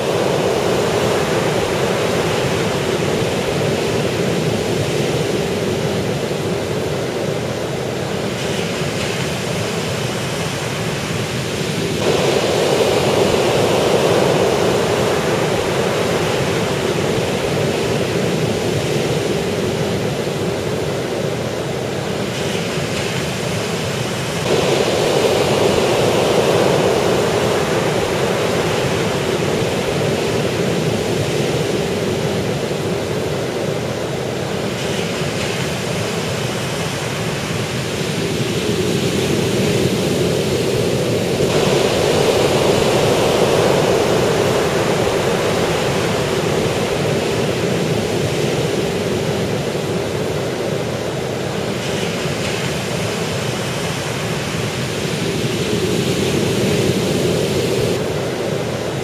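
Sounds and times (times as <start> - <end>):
surf breaking on sand beach: 0.0 - 59.0.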